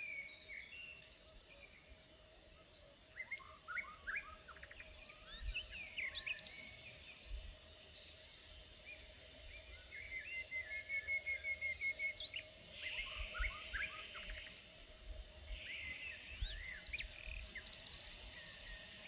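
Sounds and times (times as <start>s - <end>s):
faint steady tone: 0.0s - 19.0s
wild birds chirping: 0.0s - 19.0s.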